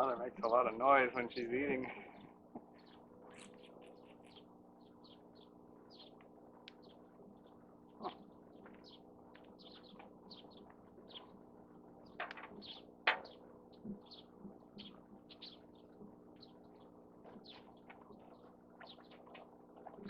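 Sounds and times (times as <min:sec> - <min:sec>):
low hum: 0:00.0 - 0:20.0
small birds chirping: 0:00.0 - 0:20.0.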